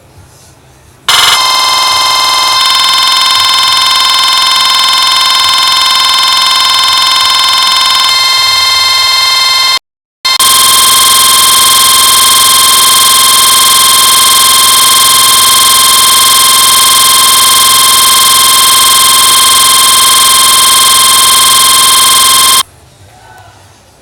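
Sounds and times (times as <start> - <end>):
loud electronic buzz: 1.1 - 22.6.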